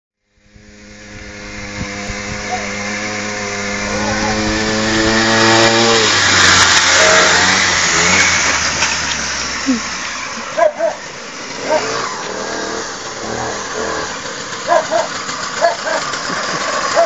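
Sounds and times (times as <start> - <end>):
small engine running: 0.2 - 17.0.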